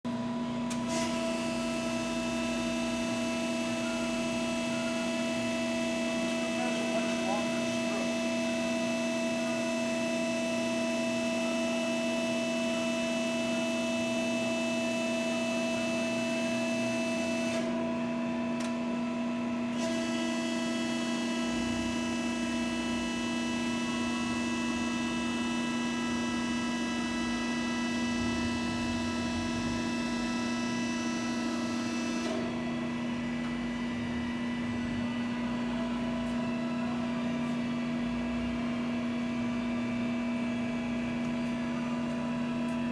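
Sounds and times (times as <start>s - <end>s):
hydraulic press hum with high whine: 0.1s - 42.9s.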